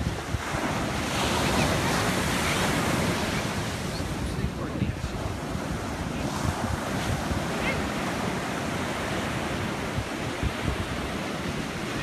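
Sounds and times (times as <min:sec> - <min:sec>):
ocean surf on sand: 0:00.0 - 0:12.0
wind buffeting microphone: 0:00.0 - 0:12.0.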